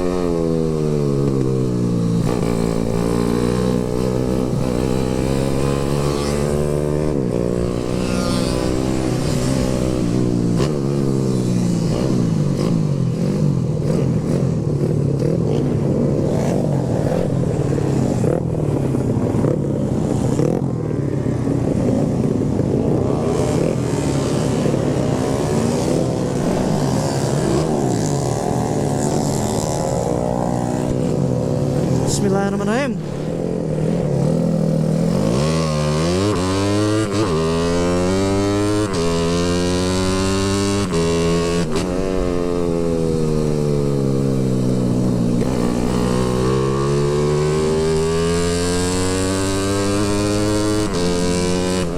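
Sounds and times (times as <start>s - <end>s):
motorcycle engine: 0.0s - 51.9s
wind and road noise: 0.0s - 51.9s.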